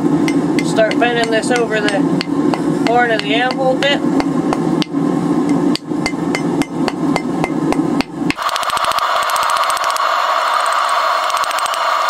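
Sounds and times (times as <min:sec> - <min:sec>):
wire brush striking hot iron bar: 0:00.2 - 0:12.0.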